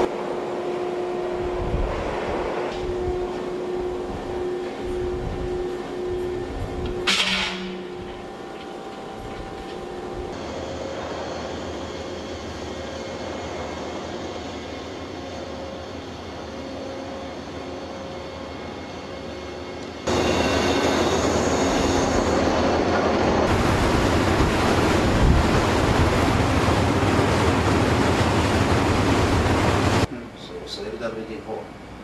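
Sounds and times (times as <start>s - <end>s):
loud rushing machinery noise: 0.0s - 30.1s
low hum: 0.0s - 30.2s
machinery hum with faint tones: 0.0s - 32.0s.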